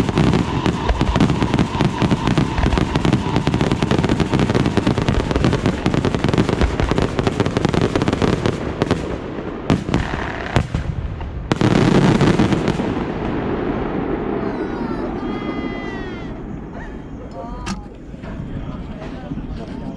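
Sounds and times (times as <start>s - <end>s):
fireworks crackling and banging: 0.0s - 19.9s.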